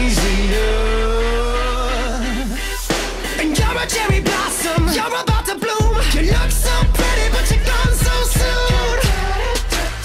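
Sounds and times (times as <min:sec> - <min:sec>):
background song: 0:00.0 - 0:10.0.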